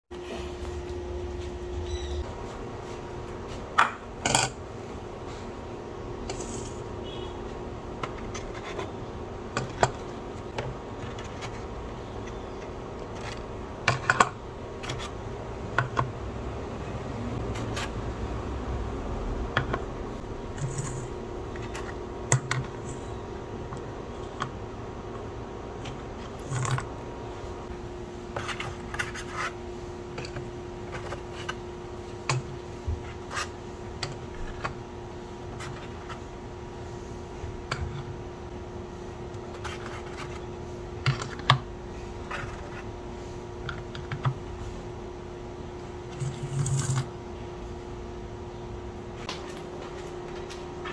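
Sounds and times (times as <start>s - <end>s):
steady background hum: 0.1s - 50.9s.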